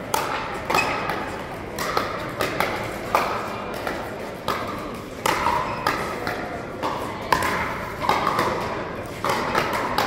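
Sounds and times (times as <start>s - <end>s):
paddles hitting plastic ball: 0.0s - 10.0s.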